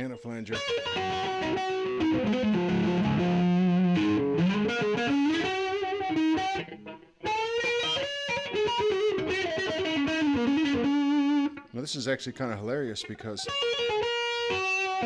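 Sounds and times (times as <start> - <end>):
distorted electric guitar with flanger: 0.5 - 11.7, 13.4 - 15.0.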